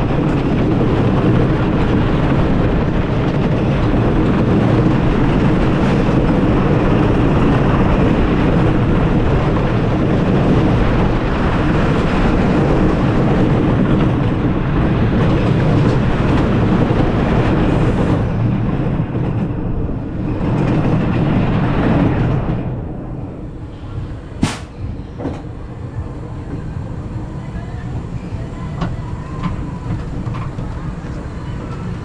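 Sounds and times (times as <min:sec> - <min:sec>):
roller coaster wheels rumbling on wooden track: 0:00.0 - 0:32.0.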